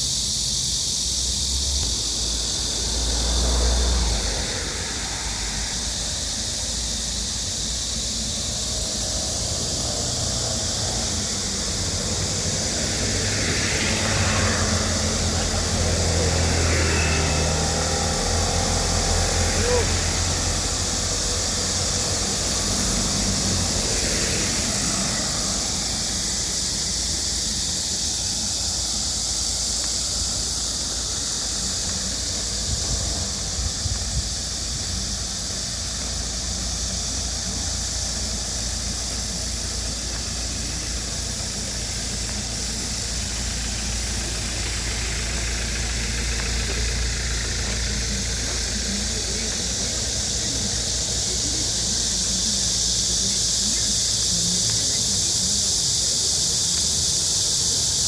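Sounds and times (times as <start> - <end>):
constant high hiss: 0.0 - 58.0
low engine-like rumble: 0.0 - 58.0.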